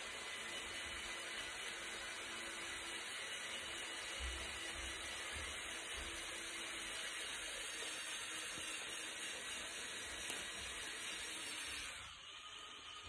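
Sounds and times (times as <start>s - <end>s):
electric motors whirring: 0.0s - 13.0s.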